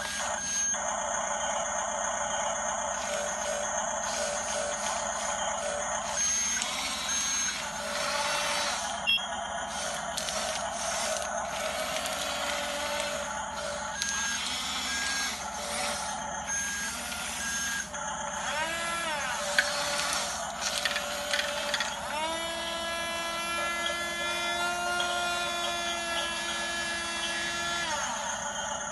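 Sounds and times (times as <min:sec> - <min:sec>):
constant mechanical hiss: 0:00.0 - 0:28.9
electric motors whining: 0:00.0 - 0:28.9.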